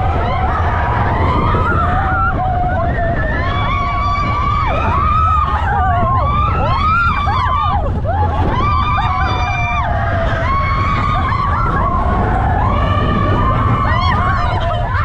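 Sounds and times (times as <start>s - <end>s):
low rumble: 0.0s - 15.0s
people yelling and screaming: 0.0s - 15.0s.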